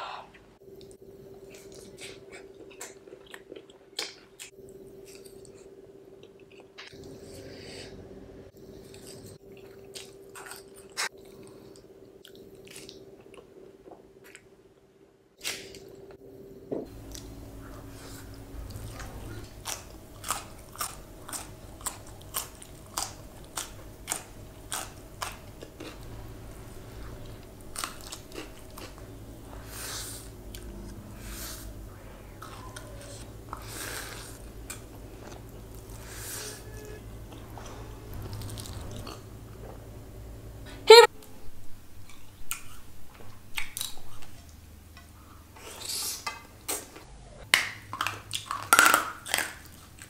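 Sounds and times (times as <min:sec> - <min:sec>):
chewing and crunching food: 0:00.8 - 0:07.5, 0:08.6 - 0:14.5, 0:17.0 - 0:31.6, 0:32.4 - 0:39.8, 0:42.0 - 0:50.0.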